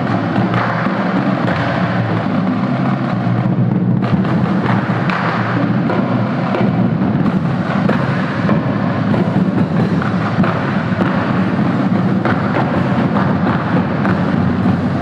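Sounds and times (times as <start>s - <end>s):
bass drums: 0.0s - 15.0s
snare drums: 0.0s - 15.0s.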